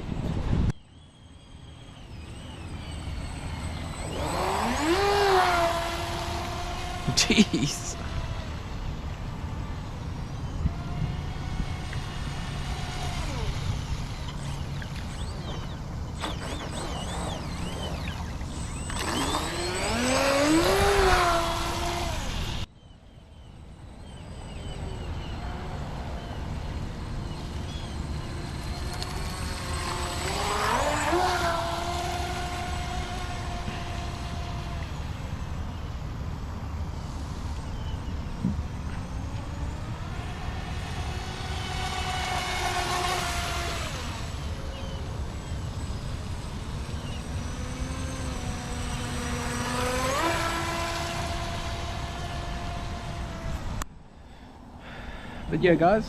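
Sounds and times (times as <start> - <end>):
rc boat motor whining: 0.0 - 56.0.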